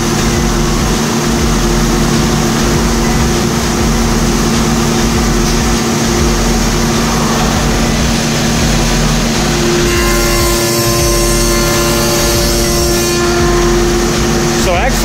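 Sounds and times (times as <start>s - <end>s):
machine hum with low drone: 0.0s - 15.0s.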